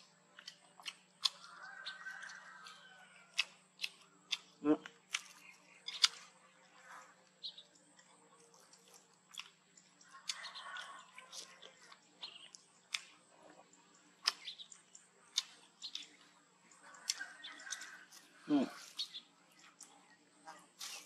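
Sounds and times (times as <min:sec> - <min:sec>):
baby monkeys chewing: 0:00.0 - 0:21.0.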